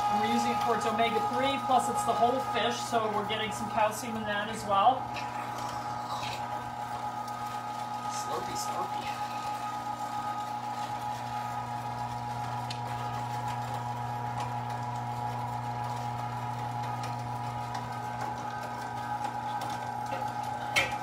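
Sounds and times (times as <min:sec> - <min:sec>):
electric meat grinder whining: 0:00.0 - 0:21.0.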